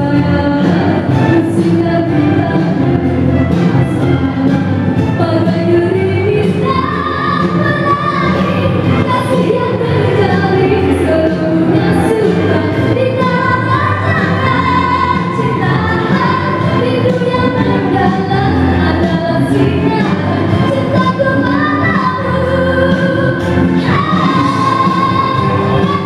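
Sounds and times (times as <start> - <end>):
musical backing track: 0.0 - 26.0
woman singing into microphone: 0.0 - 26.0.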